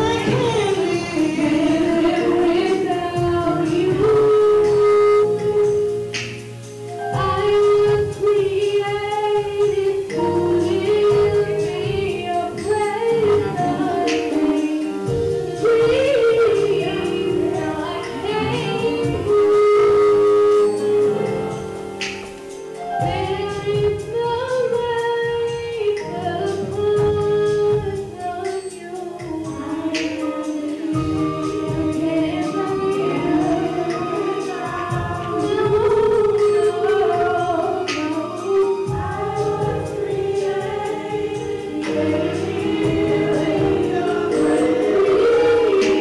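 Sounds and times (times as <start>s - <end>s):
person singing gospel: 0.0s - 6.1s, 7.0s - 21.6s, 22.8s - 46.0s
sustained instrumental accompaniment: 0.0s - 46.0s.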